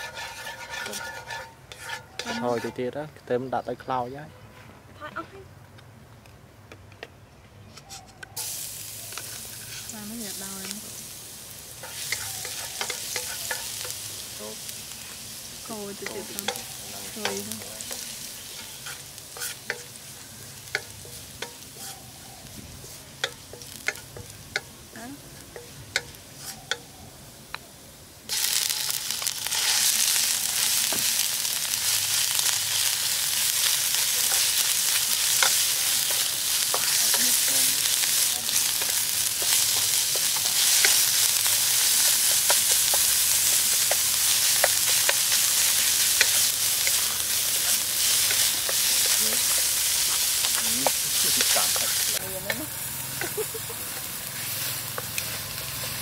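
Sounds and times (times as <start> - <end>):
garlic frying in oil: 0.0 - 2.8, 8.4 - 26.9, 28.3 - 56.0
spatula scraping a wok: 0.0 - 3.0, 7.8 - 24.7, 25.3 - 26.9, 28.3 - 56.0.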